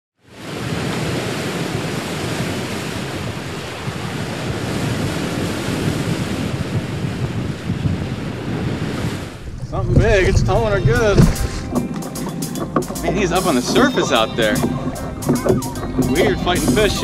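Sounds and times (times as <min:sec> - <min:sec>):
ocean waves: 0:00.2 - 0:17.0
wind: 0:00.2 - 0:17.0.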